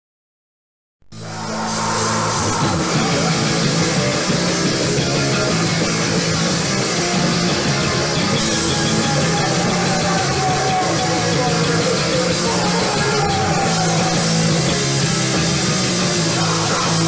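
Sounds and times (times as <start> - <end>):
electric guitar: 1.1 - 17.0
punk rock band playing: 1.1 - 17.0.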